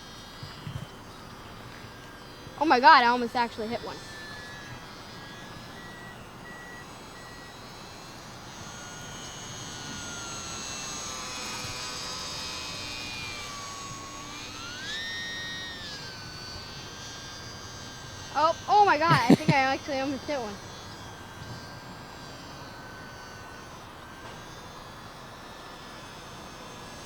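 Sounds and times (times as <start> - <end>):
rc plane motor whining: 0.0 - 27.0.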